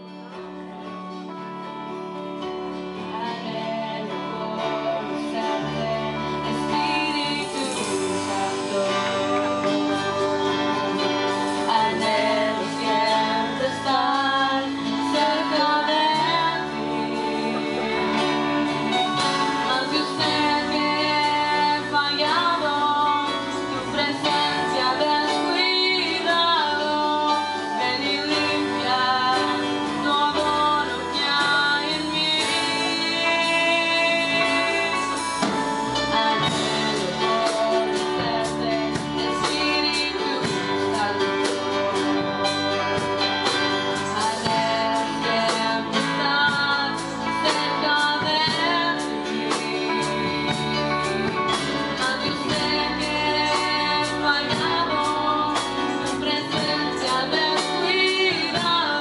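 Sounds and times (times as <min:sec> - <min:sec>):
live band with electric guitar: 0:00.0 - 0:59.0
woman singing into microphone: 0:00.0 - 0:59.0.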